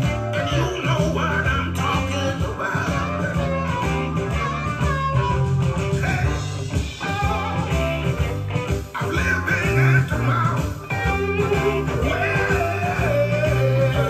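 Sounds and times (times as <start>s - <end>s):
band music with guitar and bass: 0.0s - 14.0s.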